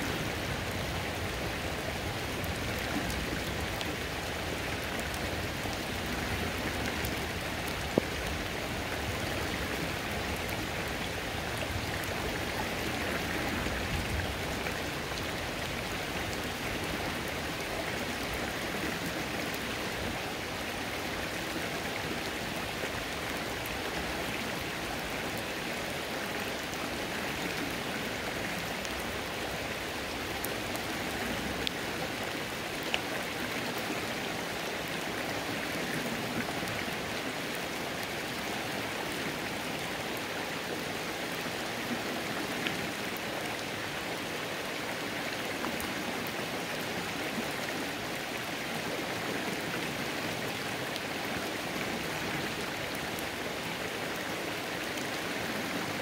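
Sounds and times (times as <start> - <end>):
creek flowing: 0.0 - 56.0
rain falling on water: 0.0 - 56.0.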